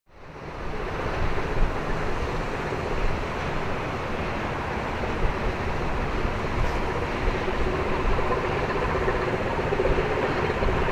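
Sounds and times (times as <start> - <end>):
wind buffeting microphone: 0.1 - 10.9.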